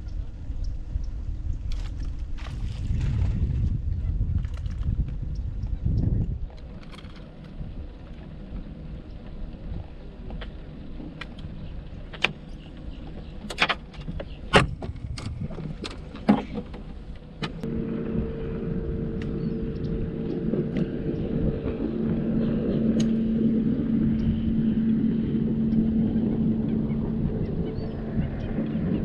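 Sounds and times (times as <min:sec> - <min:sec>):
boat motor humming: 0:00.0 - 0:29.0.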